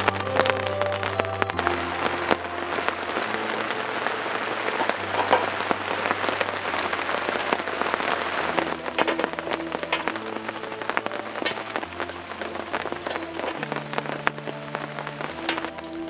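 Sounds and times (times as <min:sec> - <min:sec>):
raindrops striking close by: 0:00.0 - 0:16.0
soft background music: 0:00.0 - 0:16.0
steady rain falling: 0:00.0 - 0:16.0.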